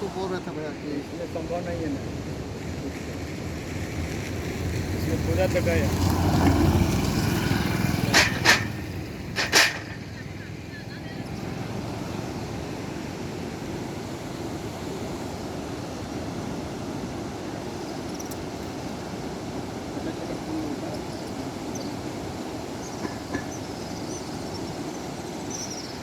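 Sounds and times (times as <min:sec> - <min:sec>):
river rushing in flood: 0:00.0 - 0:26.0.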